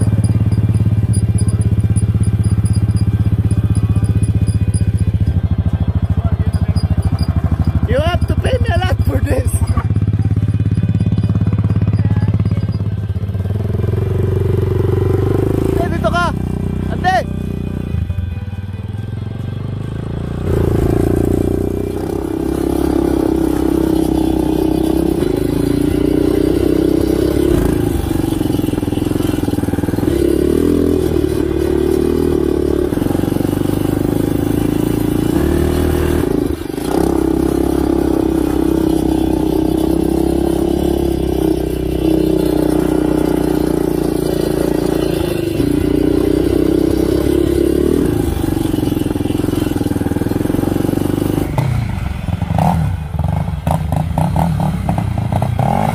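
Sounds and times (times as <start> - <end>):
atv engine under throttle: 0.0 - 18.4, 19.1 - 55.9.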